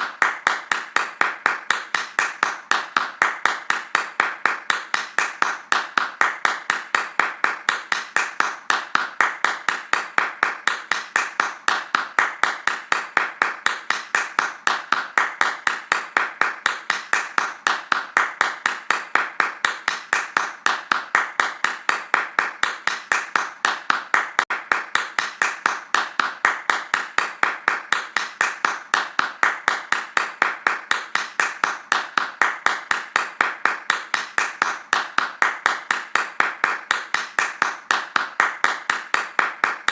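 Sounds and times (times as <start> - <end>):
hands clapping fast: 0.0 - 39.9.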